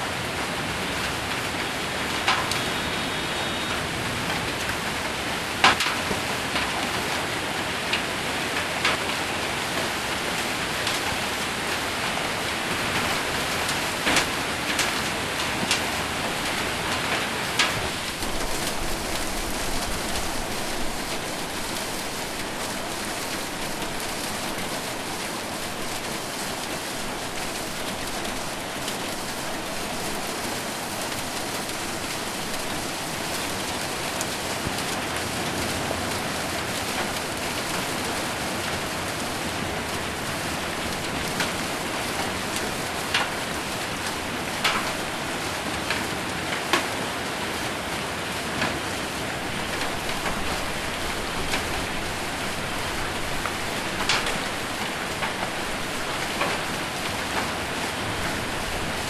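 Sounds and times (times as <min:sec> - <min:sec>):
heavy rain and hail on roof: 0:00.0 - 0:59.0.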